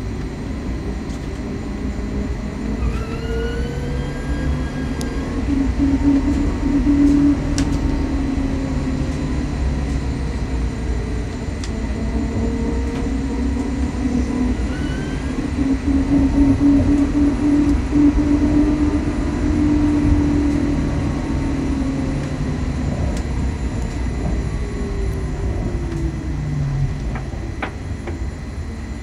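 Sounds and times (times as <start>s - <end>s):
steady road rumble: 0.0s - 29.0s.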